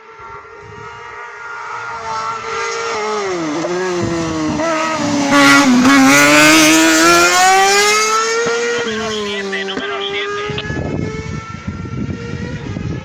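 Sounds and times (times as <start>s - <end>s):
racing car engine: 0.0s - 13.0s.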